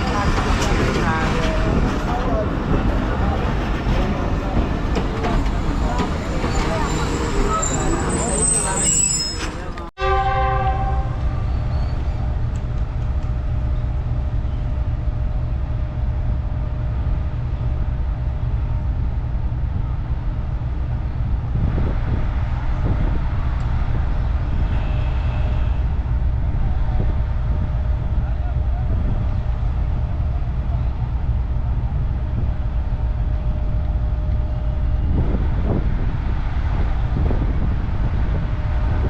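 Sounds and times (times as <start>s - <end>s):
locomotive engine rumbling: 0.0s - 39.0s.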